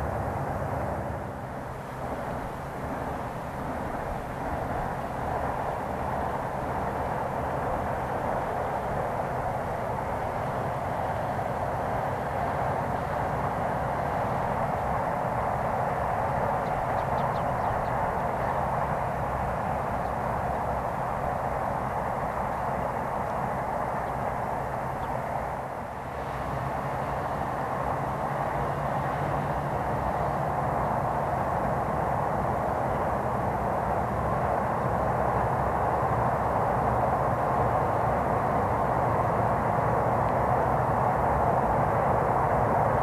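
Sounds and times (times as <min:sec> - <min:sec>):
trains rumbling across steel bridge: 0:00.0 - 0:43.0.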